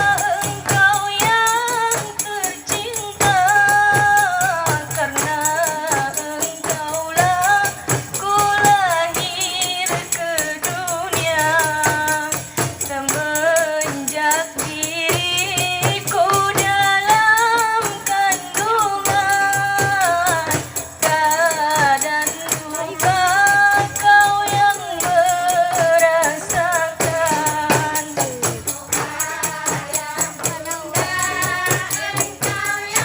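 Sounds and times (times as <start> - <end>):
frame drums and tambourine: 0.0 - 33.0.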